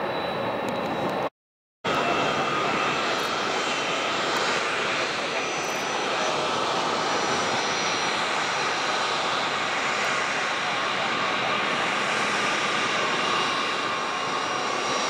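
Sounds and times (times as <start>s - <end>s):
high engine whine: 1.9s - 15.0s
jet engines roaring: 1.9s - 15.0s.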